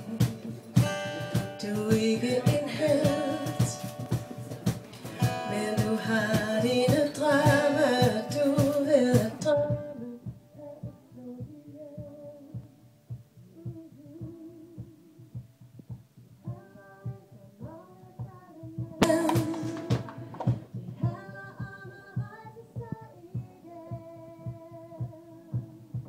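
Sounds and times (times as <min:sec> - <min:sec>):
woman singing pop song: 0:00.0 - 0:12.8, 0:13.5 - 0:15.4, 0:16.4 - 0:26.0
acoustic guitar: 0:00.0 - 0:26.0
steady beat: 0:00.0 - 0:26.0.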